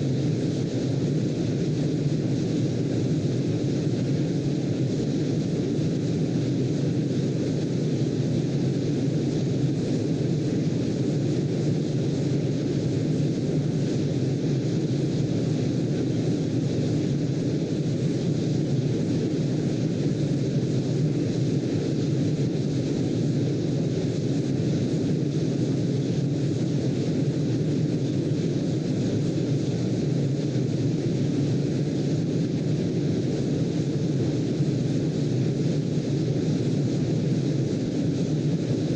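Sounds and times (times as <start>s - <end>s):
deep steady noise with hiss: 0.0s - 38.9s.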